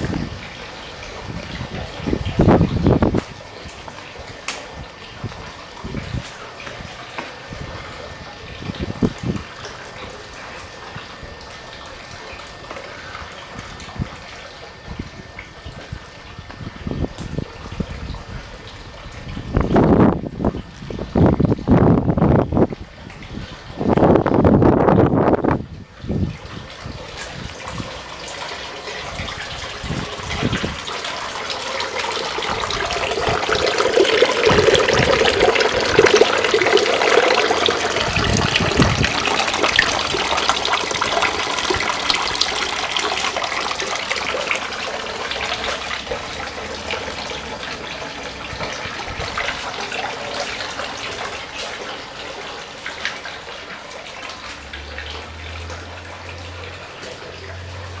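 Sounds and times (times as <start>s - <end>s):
fountain water splashing into basin: 0.0s - 58.0s.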